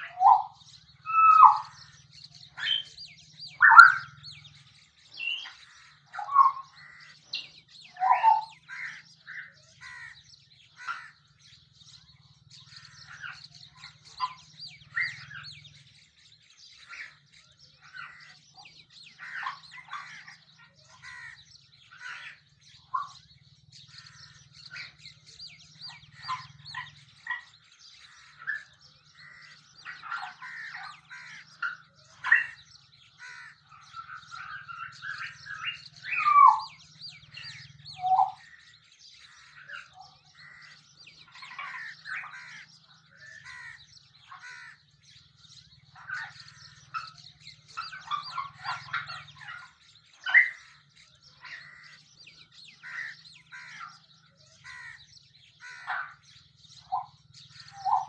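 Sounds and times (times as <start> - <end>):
birds chirping and whistling: 0.0 - 58.0.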